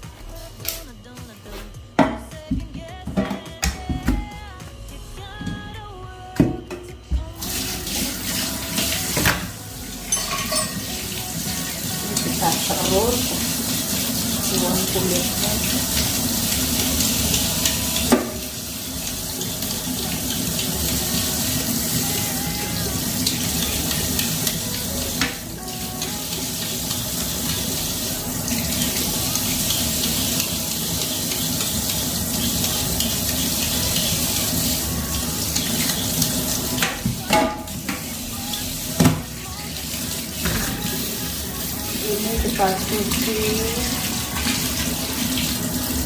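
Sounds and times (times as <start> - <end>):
tap water running into sink: 7.4 - 46.0.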